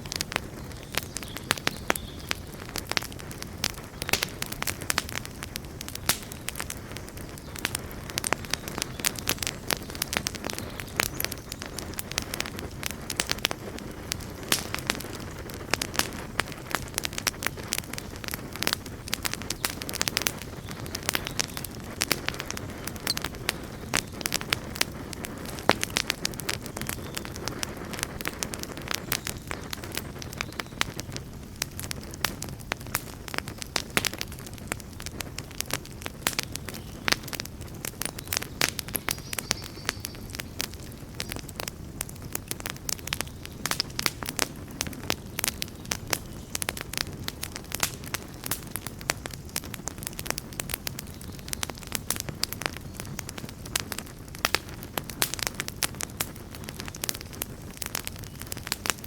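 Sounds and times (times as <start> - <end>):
burning wood crackling: 0.0 - 59.0
campfire flame rumbling: 0.0 - 59.0.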